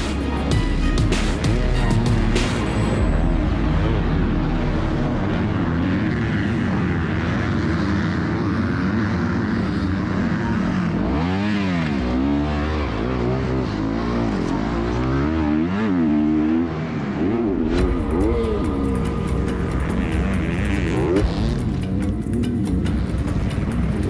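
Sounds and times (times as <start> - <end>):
motocross bike engines racing: 0.0 - 24.0.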